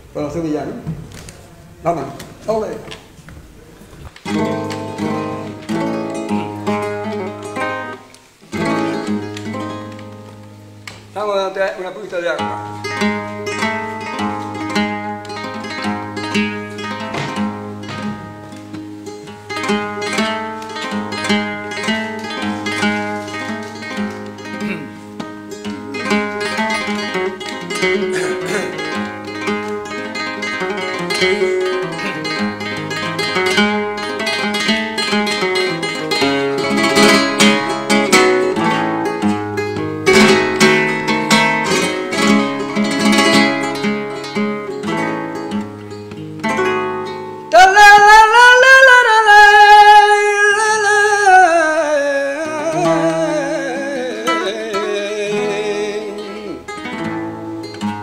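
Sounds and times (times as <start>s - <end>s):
flamenco guitar playing: 0.0s - 58.0s.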